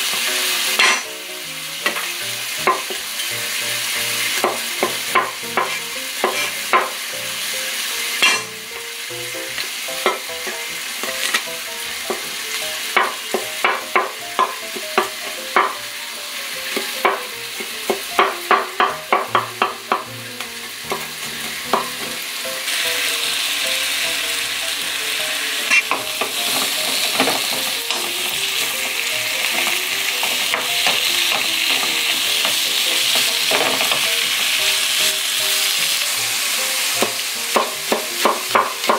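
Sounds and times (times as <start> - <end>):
vegetables sizzling in frying pan: 0.0 - 38.9.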